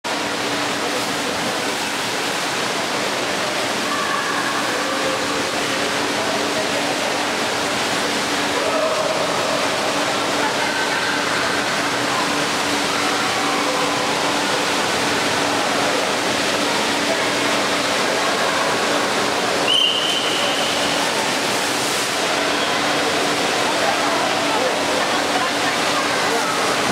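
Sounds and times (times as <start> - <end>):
running water rushing: 0.0 - 26.9
distant voices of swimmers: 0.1 - 26.9.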